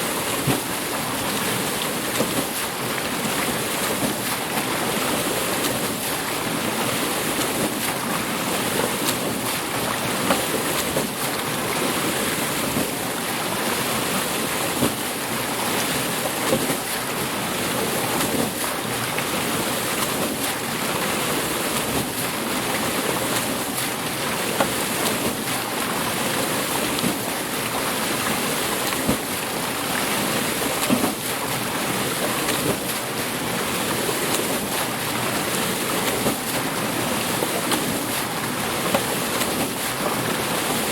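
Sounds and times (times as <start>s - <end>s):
water rushing at mill wheel: 0.0s - 40.9s.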